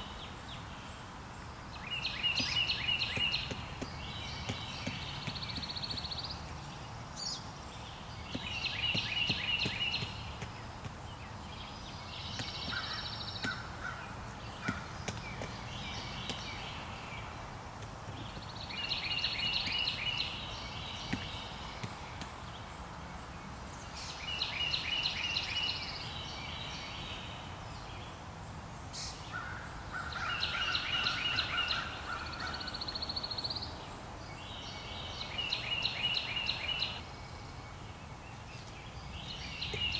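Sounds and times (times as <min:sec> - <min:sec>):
outdoor background noise: 0:00.0 - 0:39.9
songbird singing: 0:00.0 - 0:39.9.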